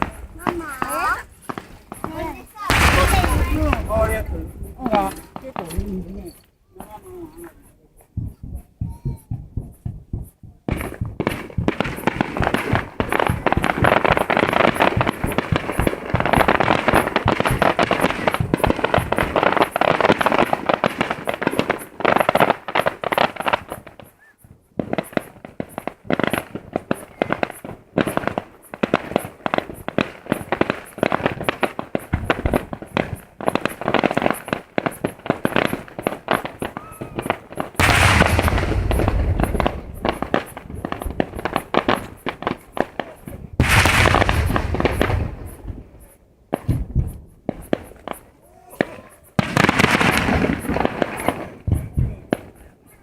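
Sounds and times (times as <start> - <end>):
deep firework booms: 0.0 - 7.1, 8.1 - 24.1, 24.7 - 52.6
fireworks crackling and popping: 0.0 - 53.0.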